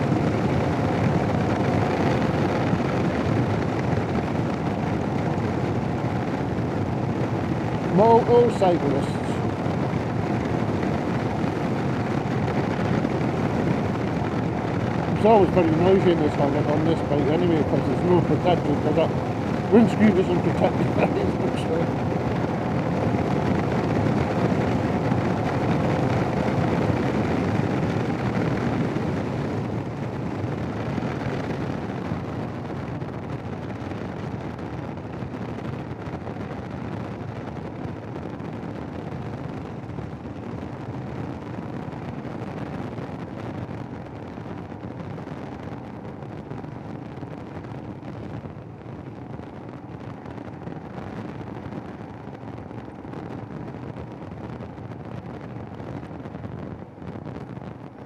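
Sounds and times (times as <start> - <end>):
wind buffeting a microphone: 0.0 - 58.0.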